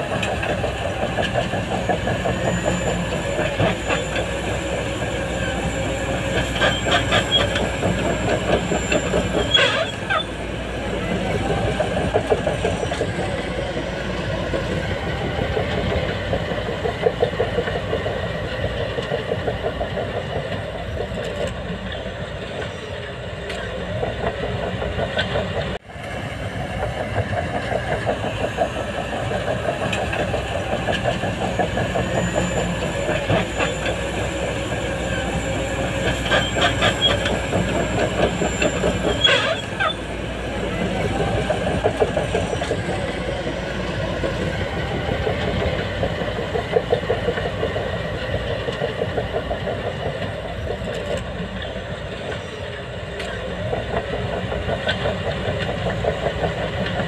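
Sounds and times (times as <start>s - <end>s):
heavy diesel engine pulsing: 0.0s - 57.0s.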